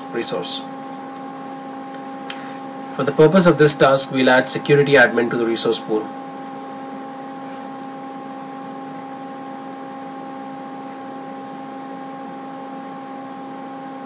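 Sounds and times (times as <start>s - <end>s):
constant multi-tone hum: 0.0s - 14.0s.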